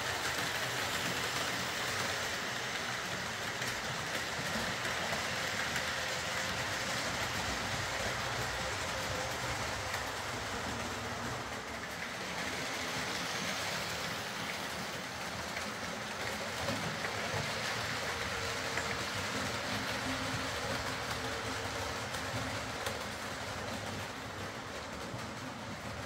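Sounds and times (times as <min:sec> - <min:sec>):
model train wheels rumbling: 0:00.0 - 0:26.0.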